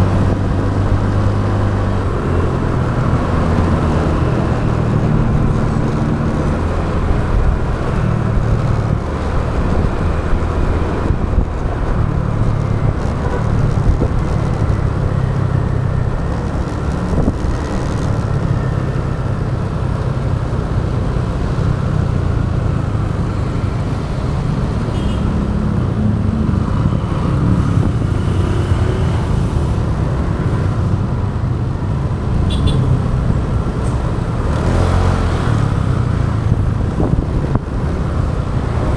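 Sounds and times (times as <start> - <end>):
motorbike engine rumble: 0.0 - 38.9
surrounding traffic: 0.0 - 38.9
wind noise: 0.0 - 38.9.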